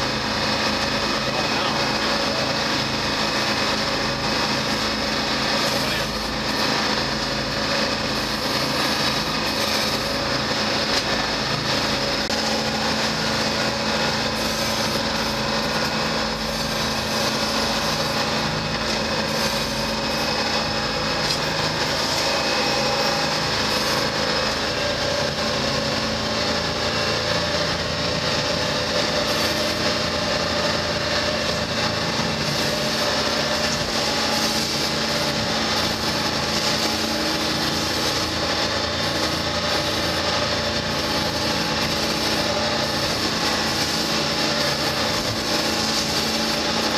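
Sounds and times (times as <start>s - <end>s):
diesel engines droning: 0.0s - 46.9s.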